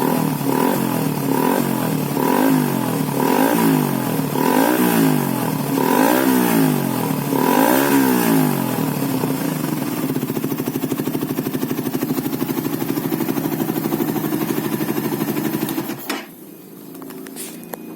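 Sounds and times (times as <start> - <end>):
motorcycle engine revving and idling: 0.0 - 17.9.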